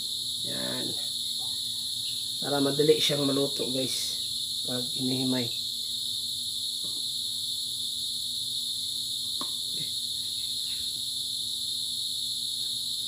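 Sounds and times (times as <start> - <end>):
insect chorus drone: 0.0 - 13.0.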